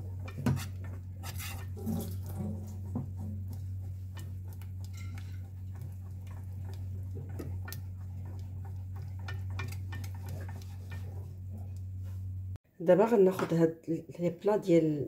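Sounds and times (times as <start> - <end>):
whisk clicking and scraping pan: 0.0 - 12.5
steady low hum: 0.0 - 12.6.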